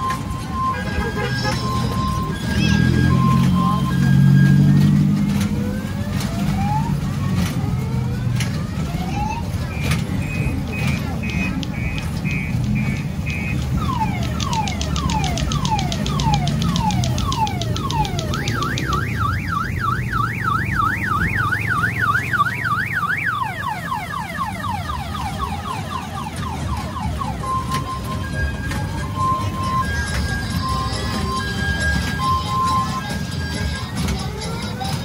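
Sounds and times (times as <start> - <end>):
electronic siren alarm: 0.0 - 34.4.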